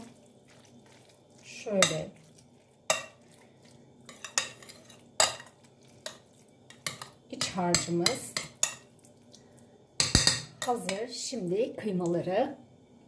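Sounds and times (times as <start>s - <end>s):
spoon stirring wet meat filling: 0.0s - 11.9s.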